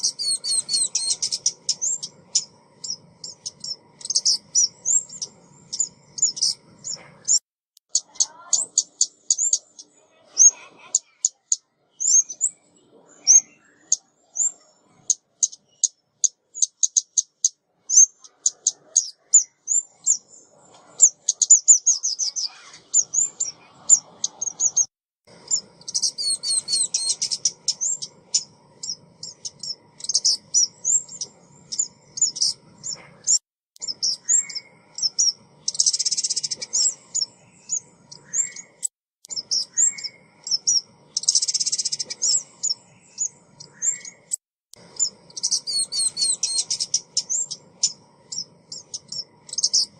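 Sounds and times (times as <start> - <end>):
bird high chirps and trills: 0.0 - 49.9
harsh buzzy bird calls: 0.0 - 49.9.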